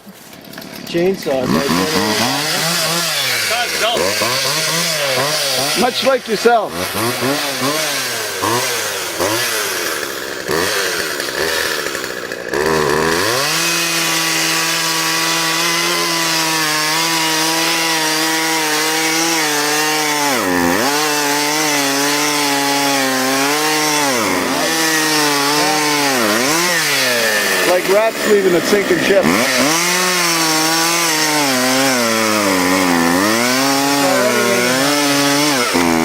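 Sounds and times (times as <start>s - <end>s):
chainsaw cutting into tree: 0.0s - 36.0s.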